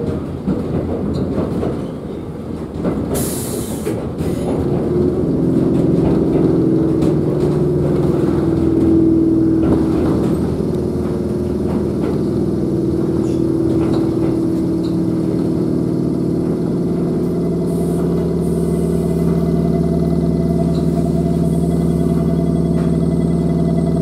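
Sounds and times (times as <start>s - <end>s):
faint wheel and track noise: 0.0s - 24.0s
train equipment hum: 0.0s - 24.0s.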